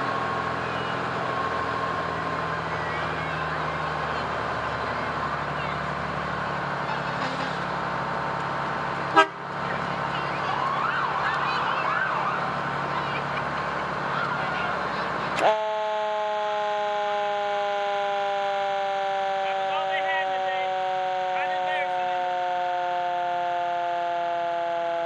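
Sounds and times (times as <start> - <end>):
fire truck siren: 0.0 - 25.0
truck engine running: 0.0 - 25.0.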